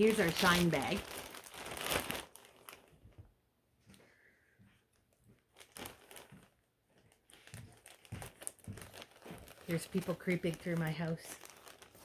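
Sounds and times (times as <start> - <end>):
plastic bag crinkling: 0.0 - 3.1, 5.4 - 12.0.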